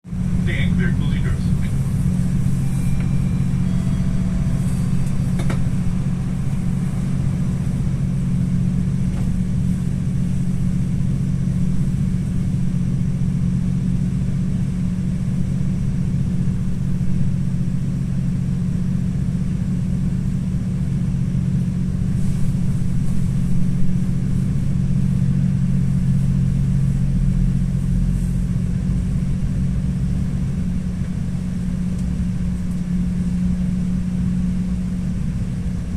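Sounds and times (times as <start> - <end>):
diesel locomotive engine droning: 0.0 - 35.9.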